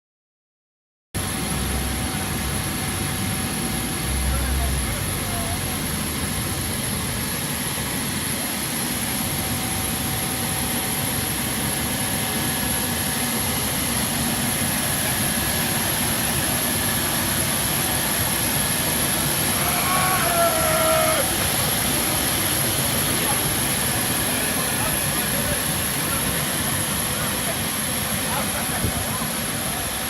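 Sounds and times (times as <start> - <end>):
high-pitched whine: 1.2 - 30.0
jet engine running: 1.2 - 30.0.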